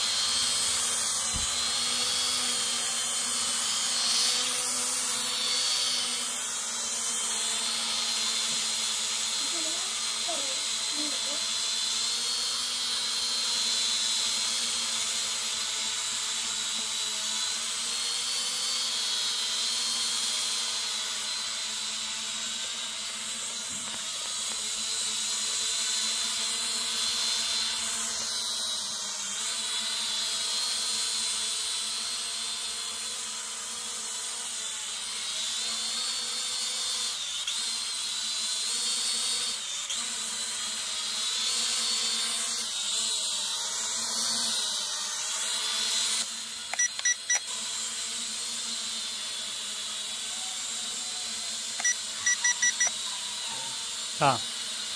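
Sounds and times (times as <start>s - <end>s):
toy drone whine: 0.0s - 54.9s.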